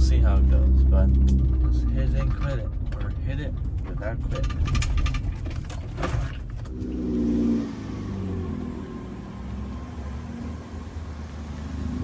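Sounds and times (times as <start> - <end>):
car engine accelerating: 0.0 - 12.0
low road rumble: 0.0 - 12.0.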